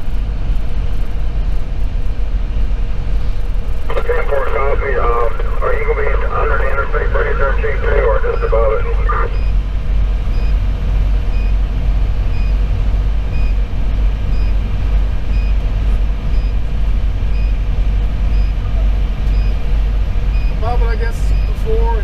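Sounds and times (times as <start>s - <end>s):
diesel engine rumbling: 0.0s - 22.0s
road noise: 0.0s - 22.0s.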